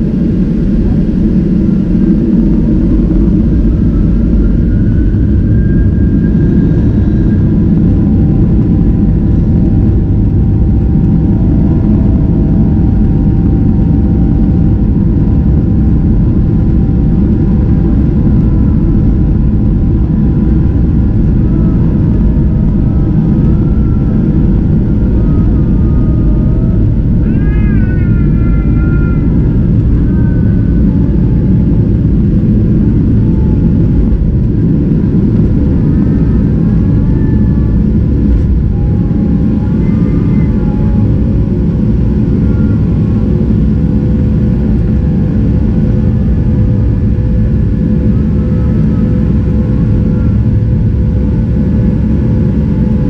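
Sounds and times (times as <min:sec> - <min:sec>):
jet engines roaring: 0:00.0 - 0:53.0
runway rumble: 0:00.0 - 0:53.0.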